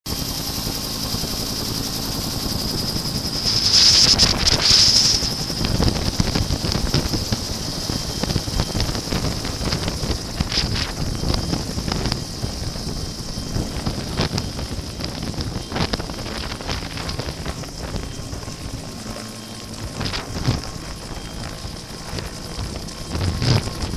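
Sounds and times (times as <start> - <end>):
helicopter rotor chop: 0.1 - 23.9
turbine whine: 0.1 - 23.9
wind buffeting microphone: 0.2 - 23.9
hissing rush: 2.0 - 23.9.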